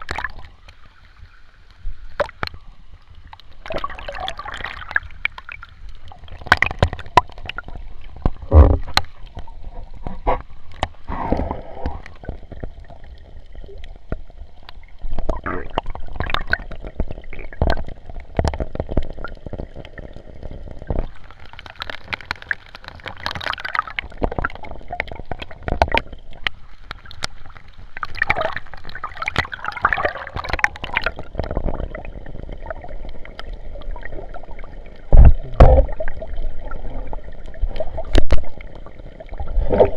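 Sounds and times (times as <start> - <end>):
water splashing: 0.0 - 1.2, 2.0 - 39.9
water sloshing and gurgling: 0.0 - 39.9.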